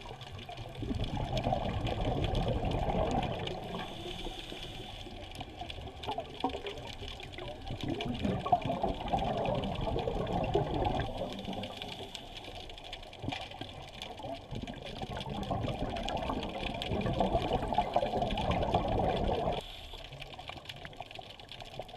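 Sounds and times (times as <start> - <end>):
underwater bubbling and sloshing: 0.0 - 21.9.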